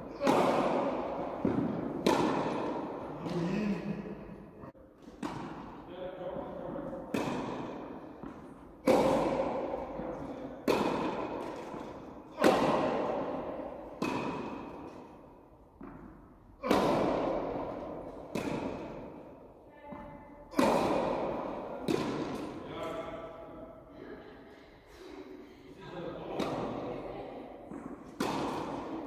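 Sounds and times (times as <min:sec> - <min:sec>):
tennis racket hitting ball: 0:00.0 - 0:03.5, 0:05.0 - 0:22.9, 0:26.3 - 0:26.8, 0:27.6 - 0:29.0
tennis ball bouncing: 0:00.1 - 0:03.4, 0:05.0 - 0:22.9, 0:26.3 - 0:29.0.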